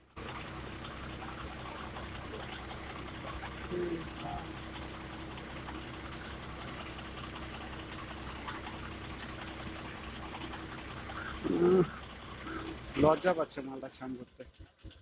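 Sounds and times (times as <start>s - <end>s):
low mechanical hum: 0.0s - 15.0s
water gushing from an outlet: 0.0s - 15.0s.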